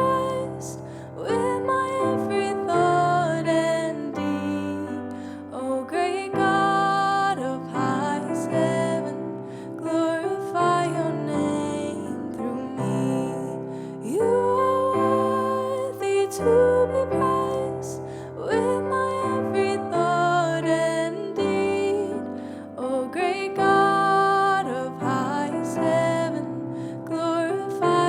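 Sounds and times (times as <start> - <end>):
piano chords: 0.0 - 28.0
slow worship song: 0.0 - 28.0.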